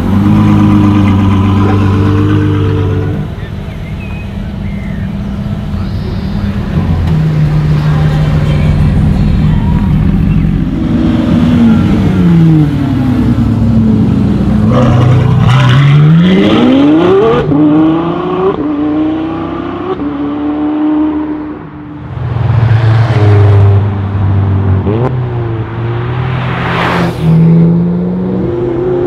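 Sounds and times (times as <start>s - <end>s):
sports car engine accelerating: 0.0s - 29.0s.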